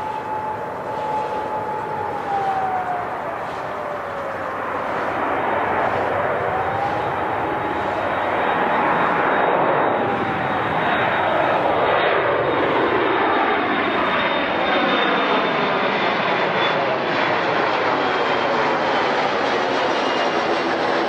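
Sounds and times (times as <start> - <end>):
jet engines passing: 0.0 - 21.0.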